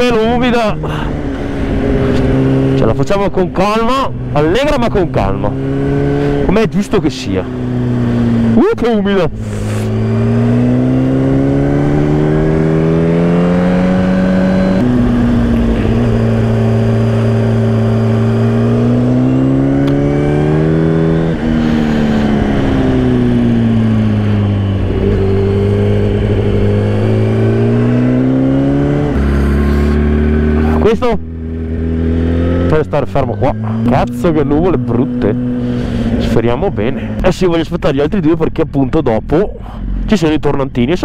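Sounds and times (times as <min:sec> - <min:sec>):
motorcycle engine revving: 0:00.0 - 0:37.7.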